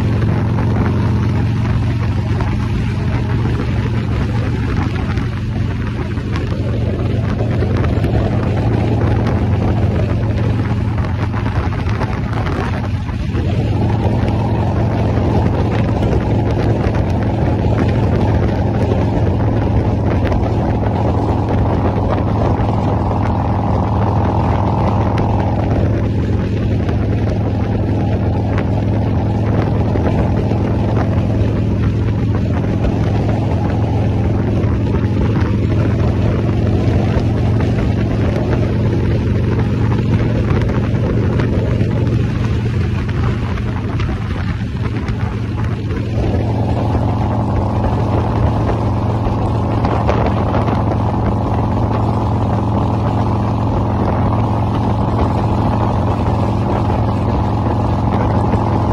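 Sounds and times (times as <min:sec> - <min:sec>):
higher hum: 0:00.0 - 0:58.9
motorcycle engine running: 0:00.0 - 0:58.9
wind on microphone: 0:00.0 - 0:58.9.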